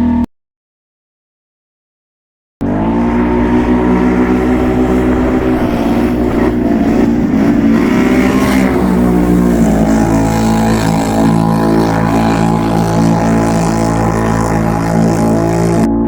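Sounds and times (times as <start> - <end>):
atv engine under throttle: 2.6 - 15.9.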